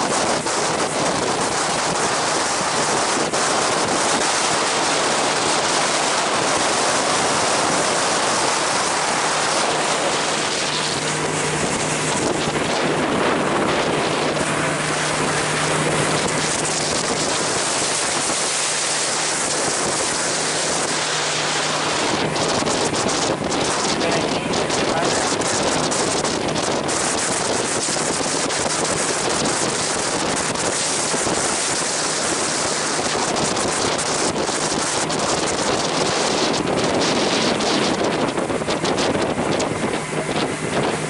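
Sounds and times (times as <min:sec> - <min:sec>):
boat engine drone: 0:00.0 - 0:41.0
water spraying off hull: 0:00.0 - 0:41.0
wind buffeting microphone: 0:00.0 - 0:41.0.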